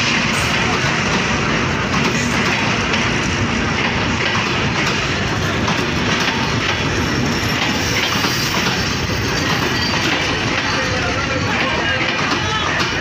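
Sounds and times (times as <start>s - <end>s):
train rumbling past: 0.0s - 13.0s
wheels clacking over rail joints: 0.0s - 13.0s.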